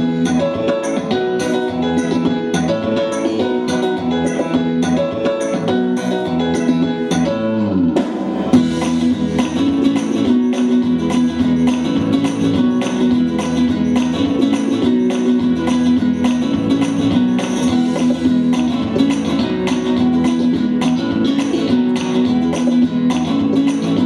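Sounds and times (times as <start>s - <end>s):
strummed guitar music: 0.0s - 24.0s.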